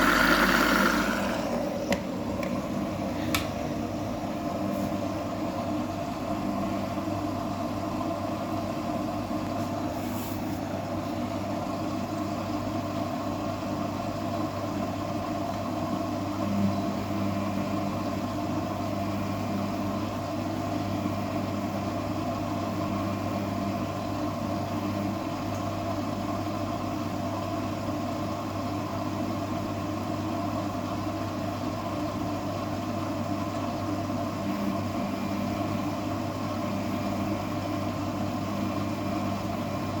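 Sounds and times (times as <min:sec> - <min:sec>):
washing machine motor hum: 0:00.0 - 0:40.0.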